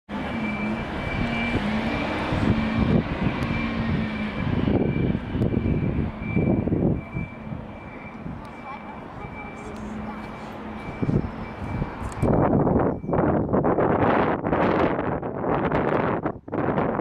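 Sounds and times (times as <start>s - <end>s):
wind buffeting microphone: 0.1s - 17.0s.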